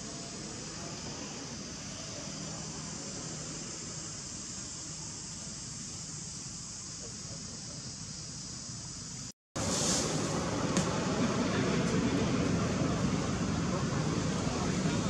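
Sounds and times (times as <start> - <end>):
high hiss: 0.0 - 15.0.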